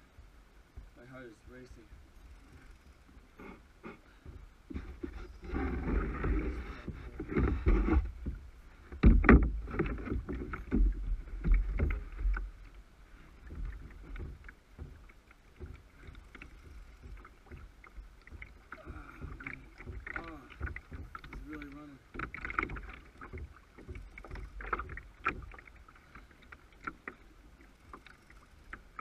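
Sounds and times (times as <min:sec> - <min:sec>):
knocks and rubs against kayak hull: 0:00.7 - 0:29.0.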